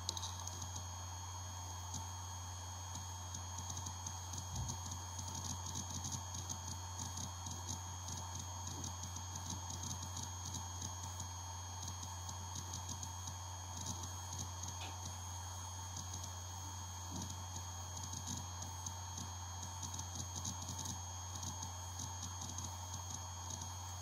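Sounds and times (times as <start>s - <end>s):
hard drive spindle hum: 0.0s - 24.0s.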